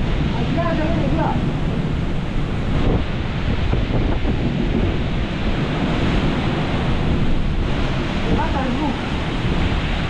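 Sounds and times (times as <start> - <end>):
driving rain: 0.0 - 10.0
storm wind roaring: 0.0 - 10.0
wind gusts buffeting microphone: 0.0 - 10.0.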